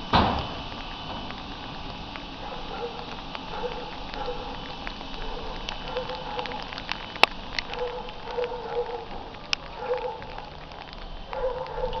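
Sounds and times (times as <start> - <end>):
faint crackling: 0.0 - 12.0.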